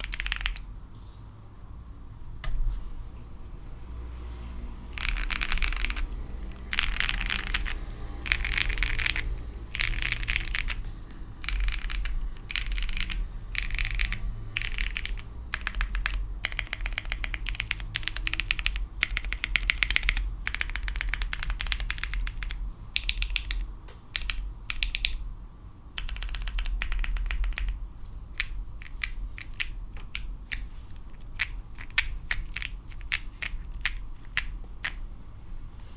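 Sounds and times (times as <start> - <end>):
mechanical keyboard typing: 0.0 - 0.7, 4.9 - 25.3, 26.0 - 35.0.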